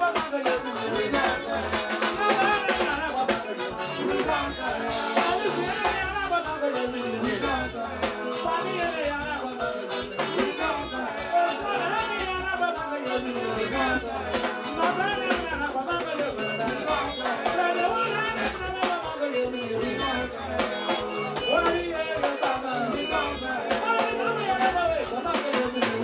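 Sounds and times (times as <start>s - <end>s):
drums: 0.0s - 26.0s
electric guitar: 0.0s - 26.0s
person singing: 0.0s - 26.0s.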